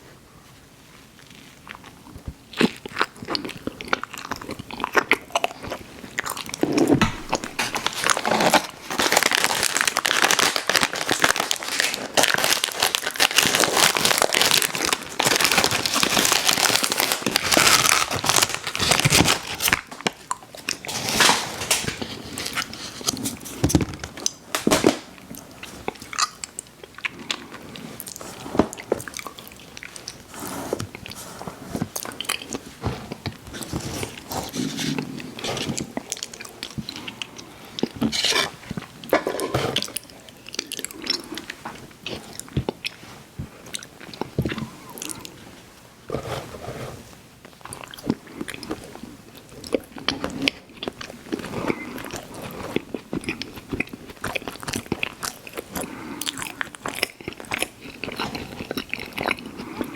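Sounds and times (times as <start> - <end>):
eating crunching and chewing: 1.2 - 46.6, 47.4 - 59.9.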